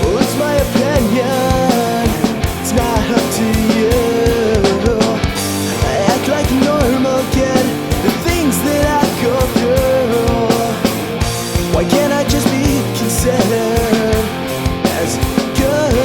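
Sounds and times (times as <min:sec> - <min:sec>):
bass: 0:00.0 - 0:16.0
drum beat: 0:00.0 - 0:16.0
electric guitar bending melody: 0:00.0 - 0:16.0.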